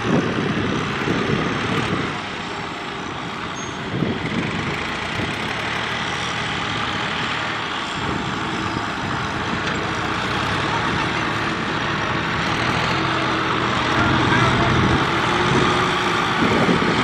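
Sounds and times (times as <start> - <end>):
diesel tractors running: 0.0 - 17.0.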